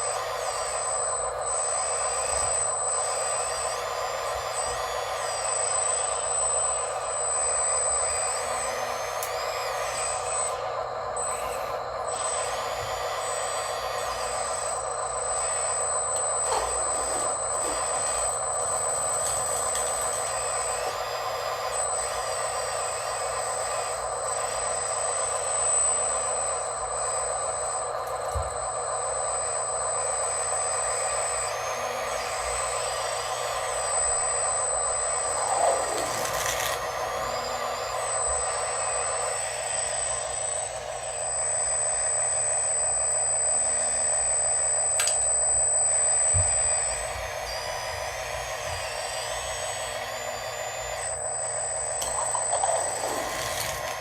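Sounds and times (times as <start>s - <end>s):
small electric motors whining: 0.0s - 54.0s.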